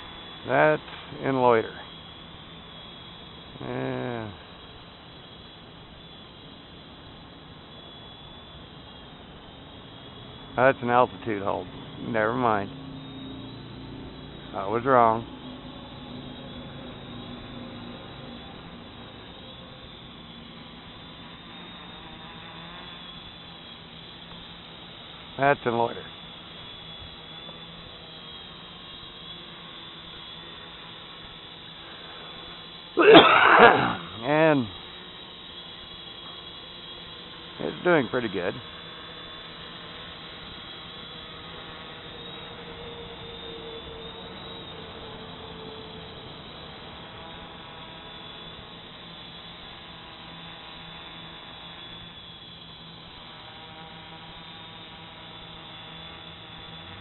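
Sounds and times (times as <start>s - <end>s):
drone motors humming: 0.0s - 57.0s.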